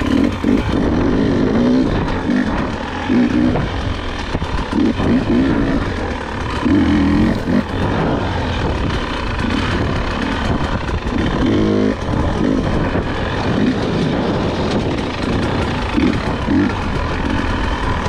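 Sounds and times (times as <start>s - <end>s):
bike knocking and rattling: 0.0s - 18.0s
dirt bike engine revving: 0.0s - 18.0s.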